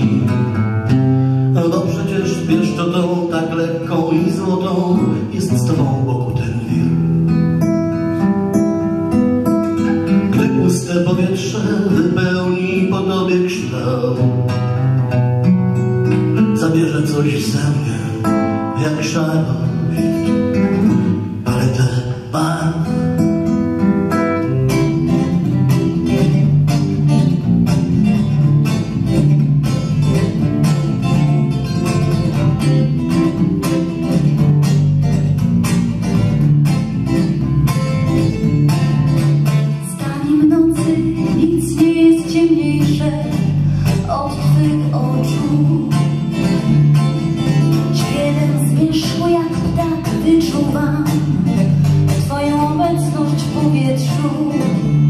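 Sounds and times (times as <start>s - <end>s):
acoustic guitar: 0.0s - 55.0s
classical guitar: 0.0s - 55.0s
electric bass guitar: 0.0s - 55.0s.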